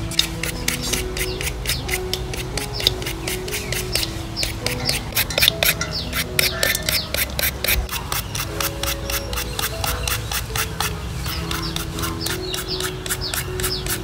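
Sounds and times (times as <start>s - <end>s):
peeler scraping fruit: 0.0s - 14.0s
soft background music: 0.0s - 14.0s.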